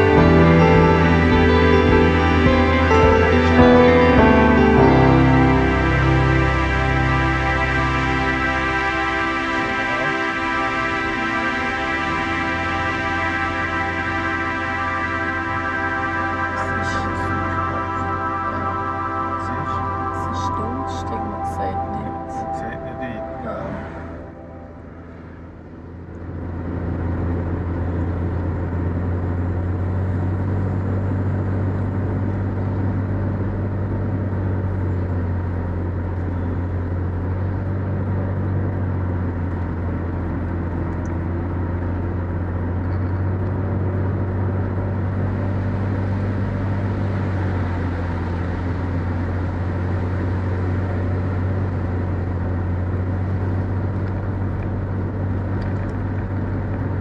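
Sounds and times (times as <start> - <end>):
car engine hum: 0.0 - 57.0
road noise: 0.0 - 57.0.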